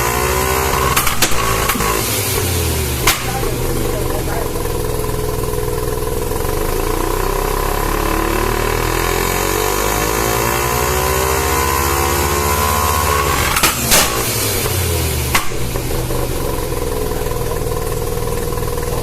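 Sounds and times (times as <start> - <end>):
rotary engine revving: 0.0 - 19.0.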